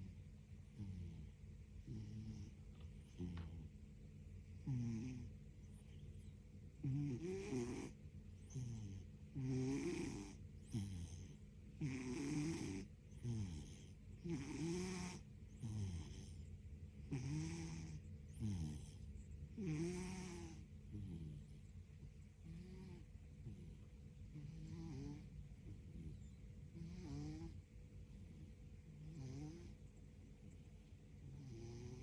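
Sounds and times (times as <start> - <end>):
cat snoring: 0.0 - 3.7, 4.6 - 21.6, 22.4 - 27.6, 28.3 - 29.8, 31.2 - 32.0.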